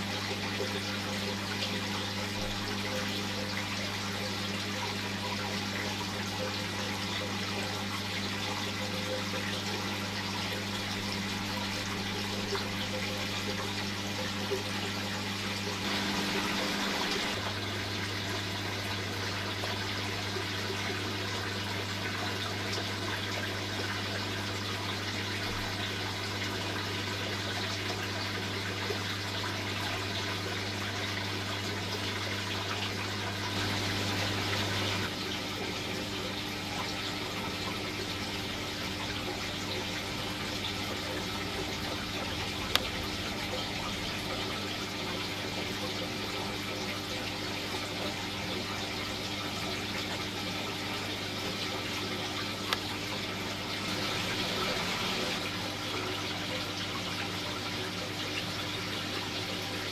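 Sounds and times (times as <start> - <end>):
low electrical pump hum: 0.0 - 59.9
water rushing in aquarium filter: 0.0 - 59.9.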